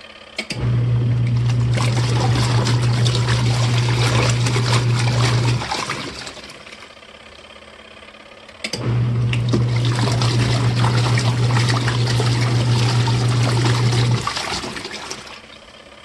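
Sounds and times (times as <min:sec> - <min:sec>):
washing machine motor humming: 0:00.4 - 0:16.0
water sloshing in tub: 0:01.0 - 0:07.0, 0:08.9 - 0:15.8.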